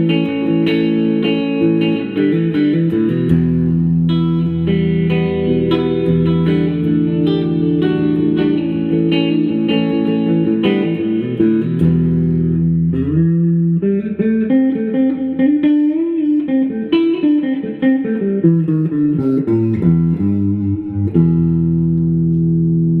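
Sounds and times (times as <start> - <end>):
electric guitar with vibrato: 0.0 - 23.0.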